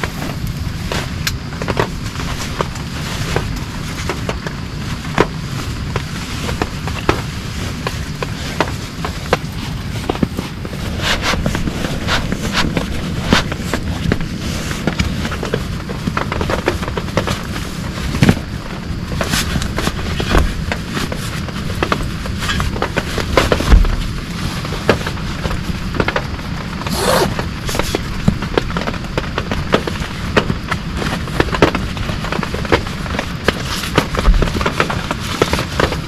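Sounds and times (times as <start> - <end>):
heavy rain drumming on a tent: 0.0 - 36.0.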